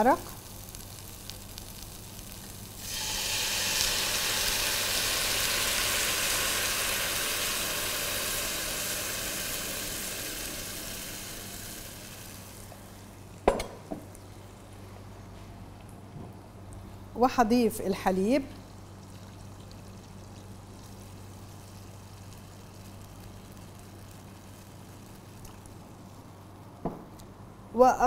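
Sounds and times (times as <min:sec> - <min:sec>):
broth sizzling in hot pot: 0:00.0 - 0:14.6, 0:18.6 - 0:26.6.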